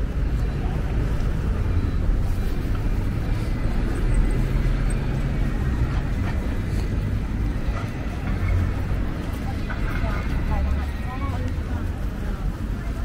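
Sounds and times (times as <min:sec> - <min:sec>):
city street rumble: 0:00.0 - 0:13.0.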